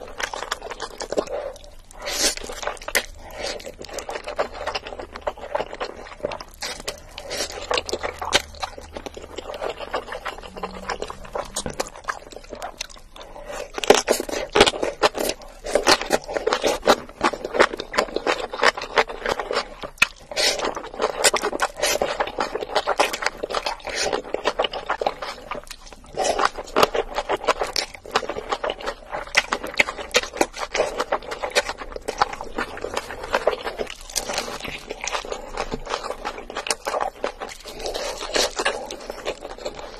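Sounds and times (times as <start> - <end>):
noodles slurped and chewed: 0.0 - 39.9.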